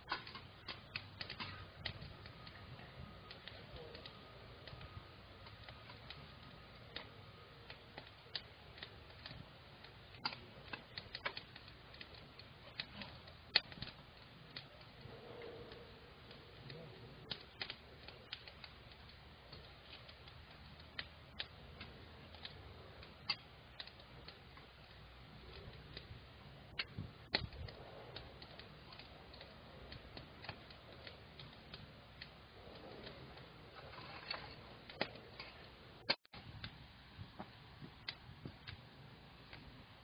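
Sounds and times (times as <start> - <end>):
campfire pops and snaps: 0.0 - 40.0
fire low hiss: 0.0 - 40.0.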